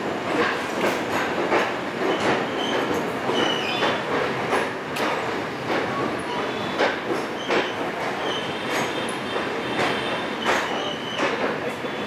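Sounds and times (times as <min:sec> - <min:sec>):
train rolling noise: 0:00.0 - 0:12.0
wheel clacks over rail joints: 0:00.3 - 0:11.9.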